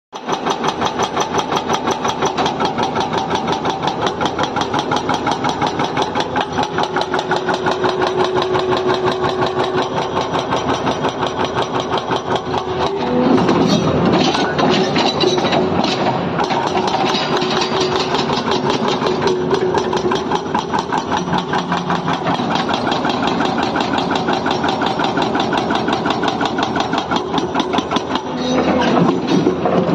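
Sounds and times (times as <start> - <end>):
diesel engine running: 0.2 - 29.9.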